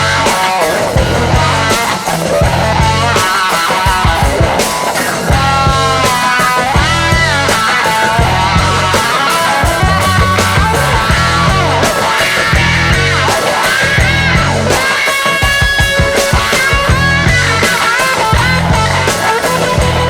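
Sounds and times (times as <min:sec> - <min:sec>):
bass: 0:00.0 - 0:20.0
electric guitar bending lead notes: 0:00.0 - 0:20.0
steady drum beat: 0:00.0 - 0:20.0.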